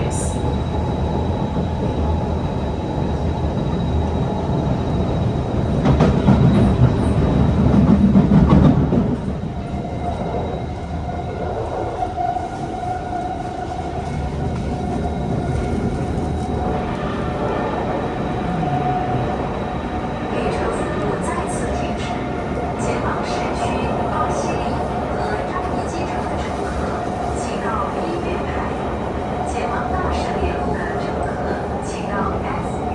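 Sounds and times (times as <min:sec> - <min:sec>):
train wheel and track rumble: 0:00.0 - 0:32.9.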